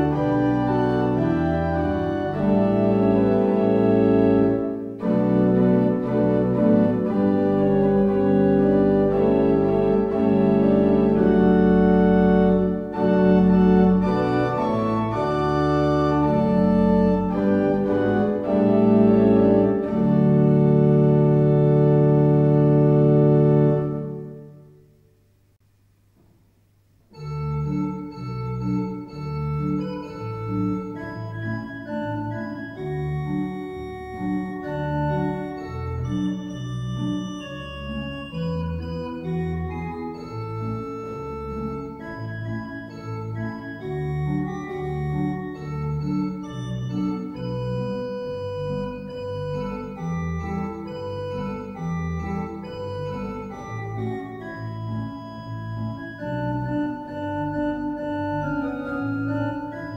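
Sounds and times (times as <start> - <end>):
pipe organ playing chords: 0.0 - 24.9, 27.1 - 59.9.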